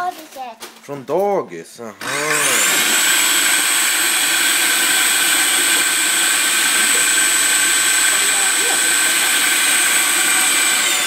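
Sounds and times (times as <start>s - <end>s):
food processor motor whine: 2.0s - 11.0s.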